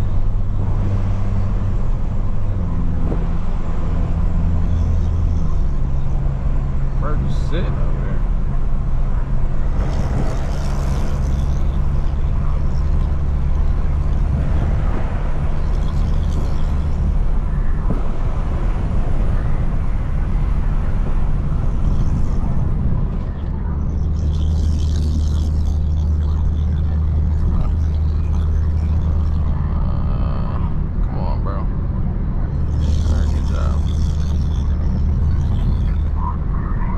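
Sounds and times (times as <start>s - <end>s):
car engine droning: 0.0s - 36.9s.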